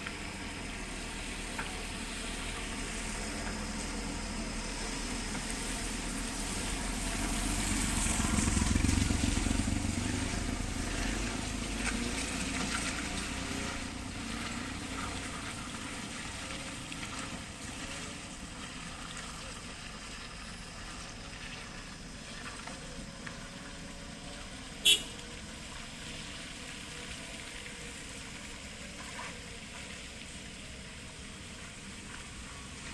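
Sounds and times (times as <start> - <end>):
heavy vehicle engine rumbling: 0.0 - 32.9
tyres hissing in mud: 0.1 - 32.9.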